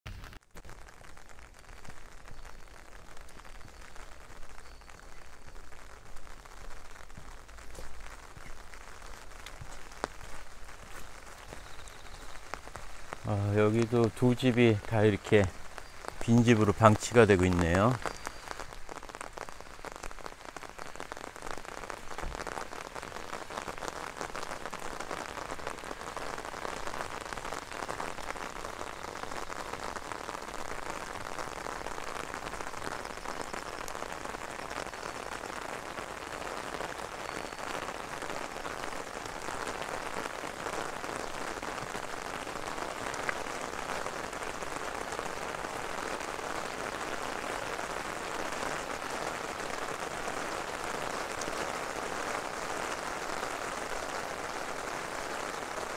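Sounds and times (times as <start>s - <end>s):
steady rain patter: 0.0s - 55.9s.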